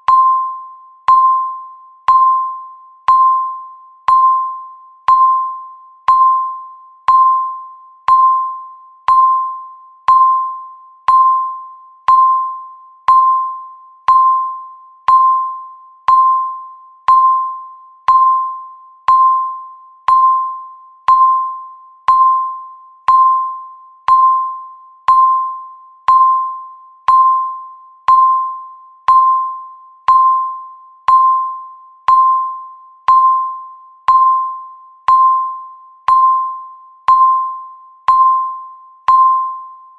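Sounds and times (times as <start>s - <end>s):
timer electronic beep: 0.0s - 39.9s.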